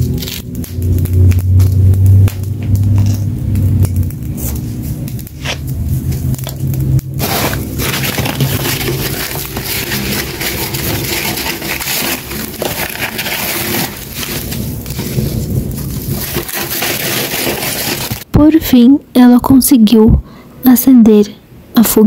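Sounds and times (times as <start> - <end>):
crunching and crackling: 0.0 - 18.3.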